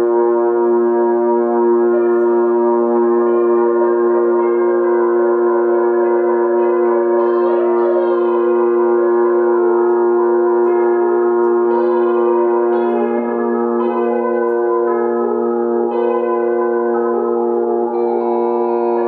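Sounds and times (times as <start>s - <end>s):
ambient drone music: 0.0s - 19.0s.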